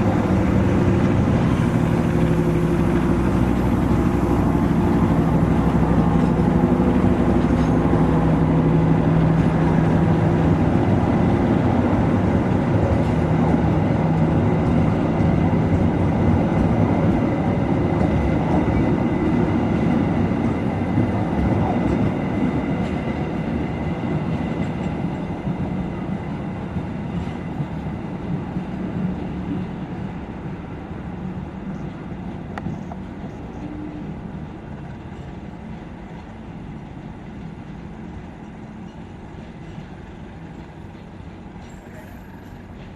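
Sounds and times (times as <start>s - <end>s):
diesel locomotive engine hum: 0.0s - 42.9s
train wheels rolling on rails: 0.0s - 42.9s.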